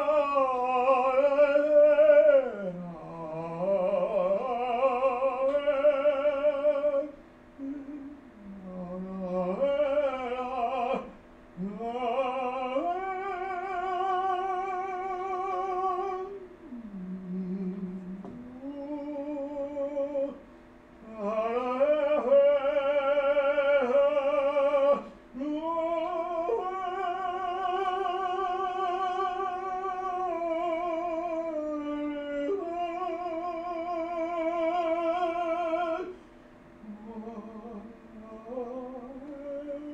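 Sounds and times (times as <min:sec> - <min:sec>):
operatic voice singing: 0:00.0 - 0:20.4, 0:21.0 - 0:36.2.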